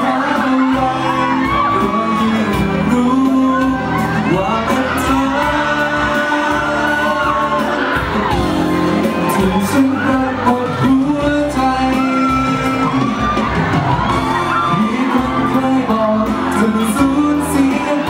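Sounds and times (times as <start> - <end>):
man singing into microphone: 0.0 - 13.4, 14.1 - 18.0
crowd shouting and whooping: 0.0 - 18.0
pop backing track: 0.0 - 18.0.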